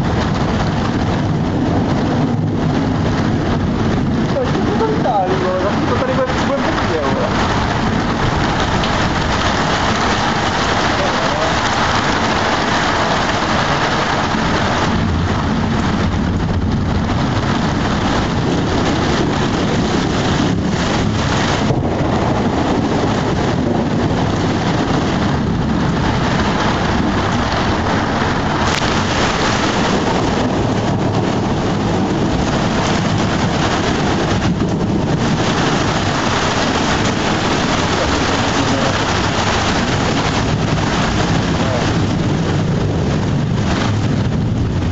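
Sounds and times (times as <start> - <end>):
heavy rain falling: 0.0 - 44.9
low rumble: 0.0 - 44.9.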